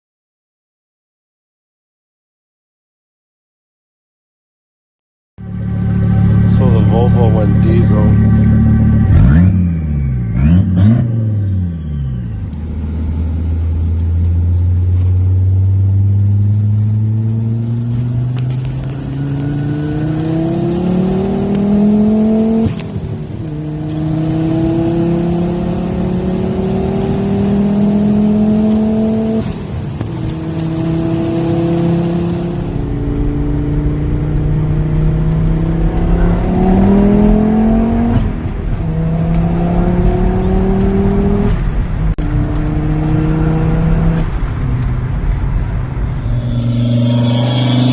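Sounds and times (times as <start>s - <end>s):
car engine accelerating through gears: 5.4s - 47.9s.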